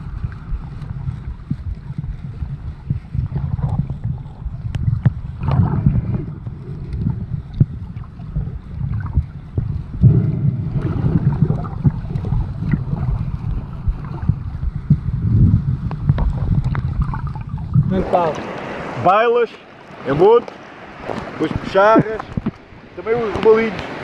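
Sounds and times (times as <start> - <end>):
underwater water rumble: 0.0 - 24.0.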